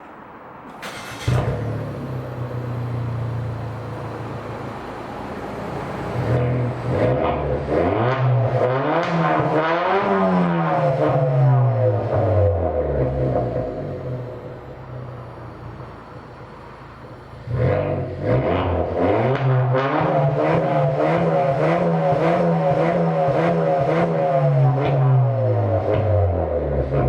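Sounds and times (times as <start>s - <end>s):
car engine idling and revving: 0.7s - 27.0s.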